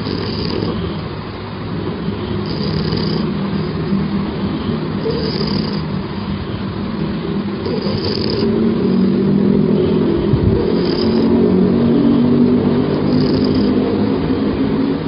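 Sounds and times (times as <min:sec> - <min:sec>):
low droning snore: 0:00.0 - 0:01.1, 0:02.0 - 0:06.5, 0:07.3 - 0:15.0.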